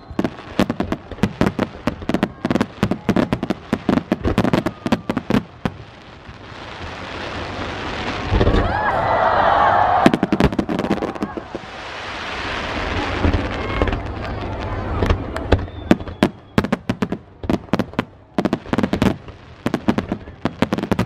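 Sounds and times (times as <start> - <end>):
fireworks crackling pops: 0.0 - 8.8, 9.9 - 21.0
fireworks bursting: 0.0 - 9.0, 9.7 - 21.0
fireworks hissing rush: 0.0 - 21.0.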